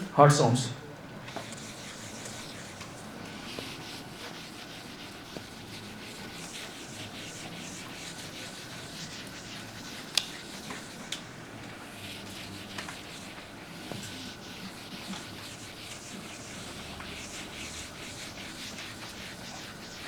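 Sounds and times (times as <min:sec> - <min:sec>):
writing strokes on a surface: 0:01.2 - 0:20.0.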